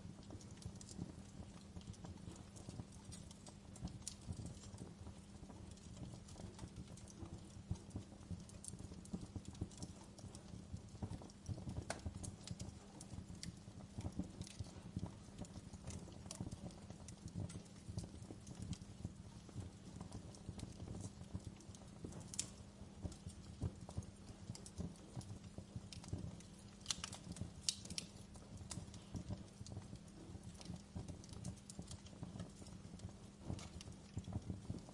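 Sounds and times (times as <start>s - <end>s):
low rumble of flames: 0.0s - 34.9s
wood fire crackling: 0.0s - 34.9s.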